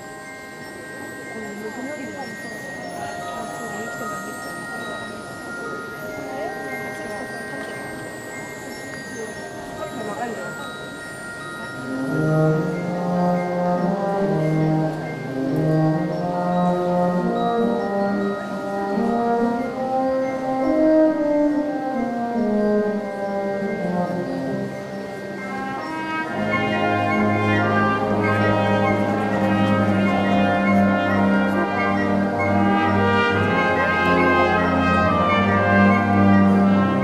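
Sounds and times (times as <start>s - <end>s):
wind band playing: 0.0s - 37.0s.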